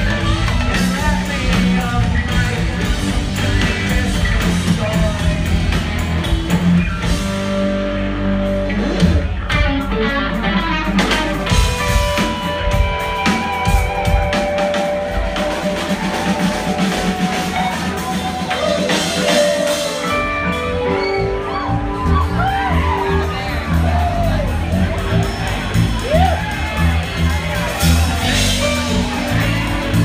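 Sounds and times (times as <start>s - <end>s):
electric guitar lead notes: 0.0s - 26.1s
drums: 0.0s - 30.0s
keyboards: 0.0s - 30.0s
live band playing: 0.0s - 30.0s.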